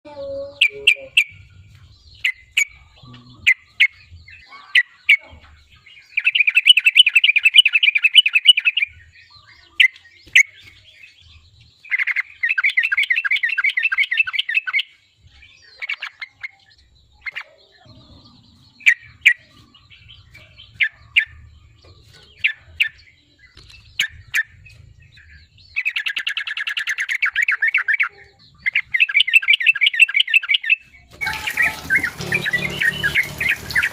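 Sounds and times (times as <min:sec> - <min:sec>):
bird chirping and trilling: 0:00.0 - 0:33.9.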